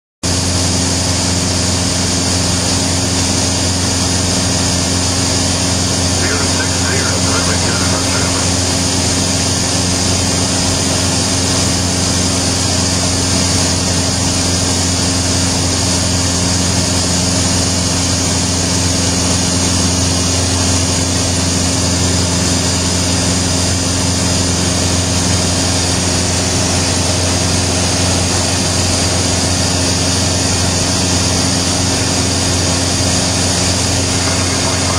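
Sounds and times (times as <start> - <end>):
light aircraft engine droning: 0.3 - 34.9.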